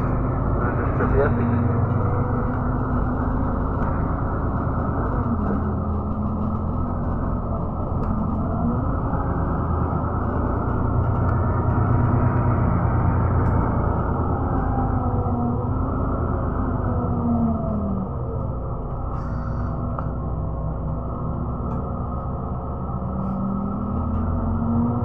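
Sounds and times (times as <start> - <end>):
vehicle engine drone and road noise: 0.0 - 25.0.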